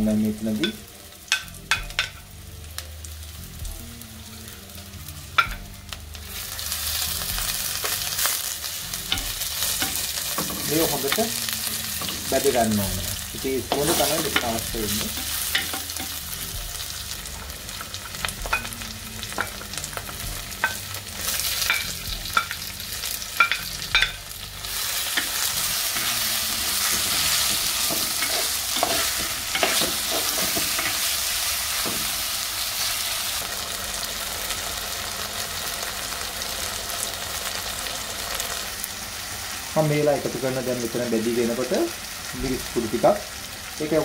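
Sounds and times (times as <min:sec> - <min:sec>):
food sizzling in oil: 0:00.0 - 0:44.0.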